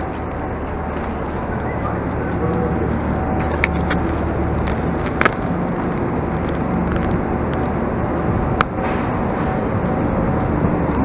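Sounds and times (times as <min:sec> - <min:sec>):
diesel train engine idling: 0:00.0 - 0:11.0.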